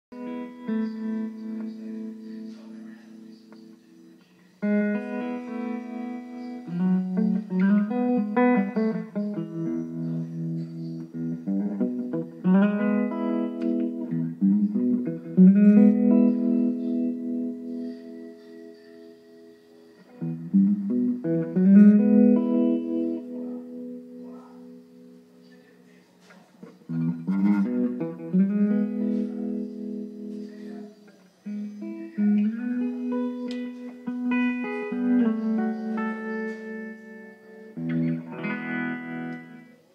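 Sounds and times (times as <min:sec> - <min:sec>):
electric guitar through amplifier: 0:00.0 - 0:39.9.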